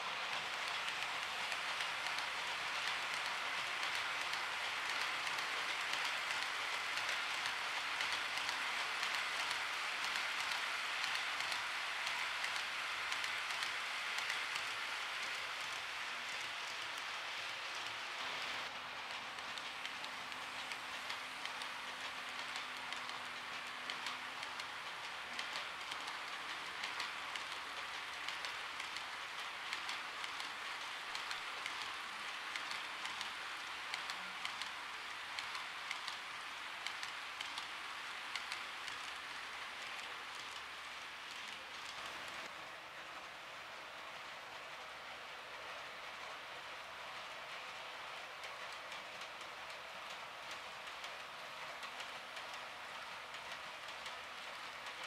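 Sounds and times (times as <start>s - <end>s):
model train wheels on rails: 0.0s - 55.0s.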